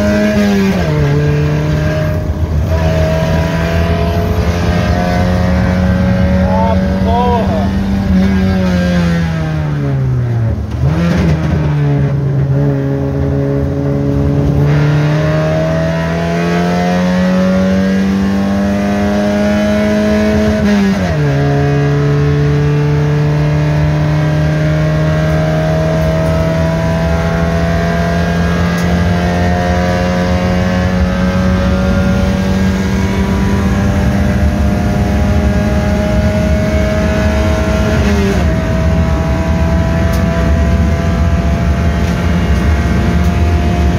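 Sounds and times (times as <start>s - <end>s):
racing car engine revving: 0.0s - 43.9s.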